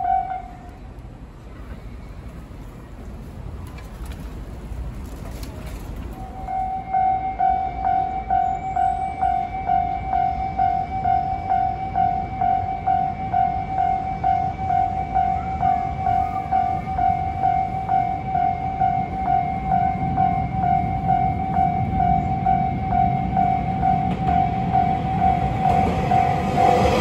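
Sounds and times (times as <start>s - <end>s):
level crossing warning bell: 0.0s - 0.9s, 6.2s - 27.0s.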